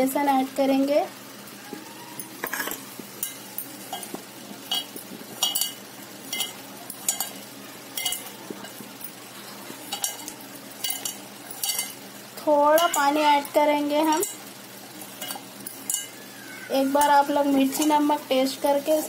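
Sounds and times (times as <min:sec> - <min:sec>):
hand mixing food in a steel pot: 0:01.7 - 0:19.0.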